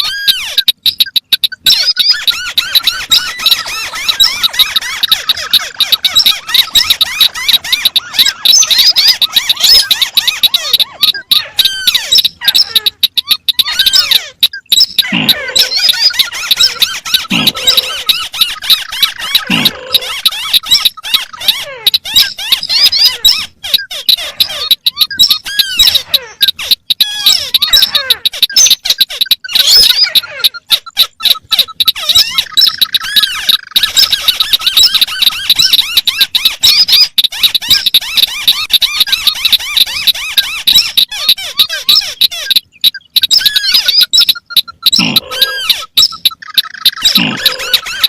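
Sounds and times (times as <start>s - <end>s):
crakes chattering: 0.0s - 48.0s.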